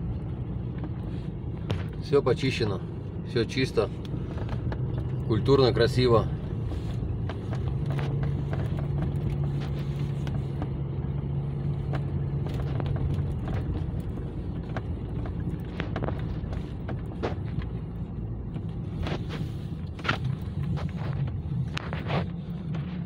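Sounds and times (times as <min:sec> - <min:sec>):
car engine hum: 0:00.0 - 0:23.0
road rumble: 0:00.0 - 0:23.0.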